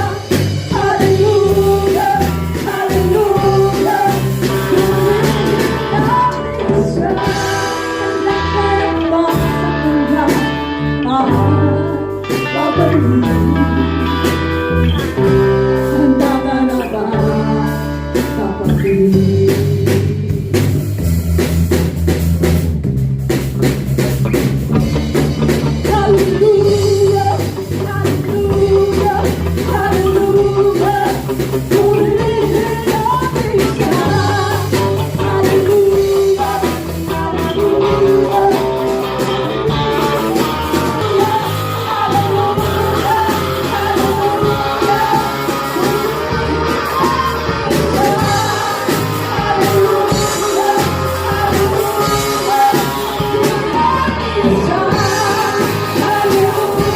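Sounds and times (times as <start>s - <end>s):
person singing: 0.0s - 20.8s, 25.7s - 56.9s
band playing: 0.0s - 56.9s.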